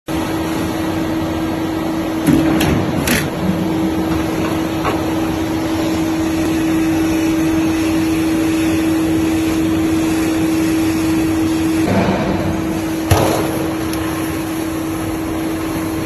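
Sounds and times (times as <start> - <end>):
machine mechanical hum: 0.1 - 16.0.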